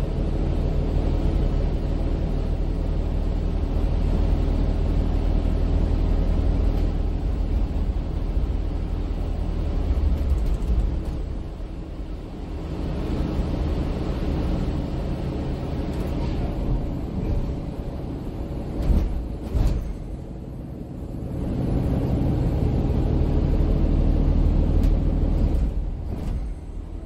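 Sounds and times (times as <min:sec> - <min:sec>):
bus diesel engine hum: 0:00.0 - 0:27.0
rolling road noise: 0:00.0 - 0:27.0.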